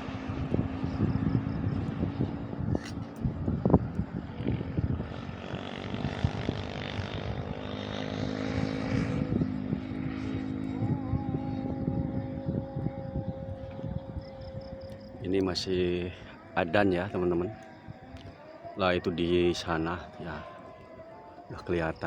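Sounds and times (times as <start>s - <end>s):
strong wind buffeting microphone: 0.0s - 18.4s
distant call to prayer: 0.0s - 22.0s
droning background hum: 0.0s - 22.0s.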